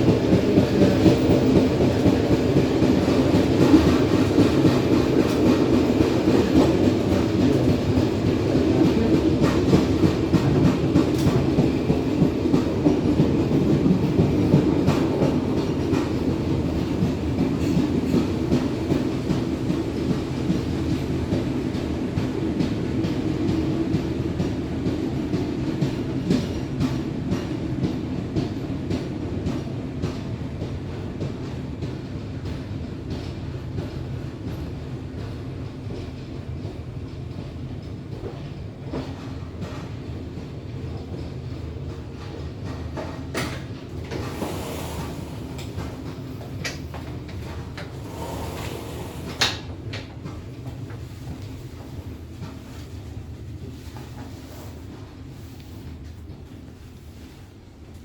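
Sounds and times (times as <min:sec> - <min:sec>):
rail joint clicks: 0:00.0 - 0:52.9
train wheels rumbling on rails: 0:00.0 - 0:58.0.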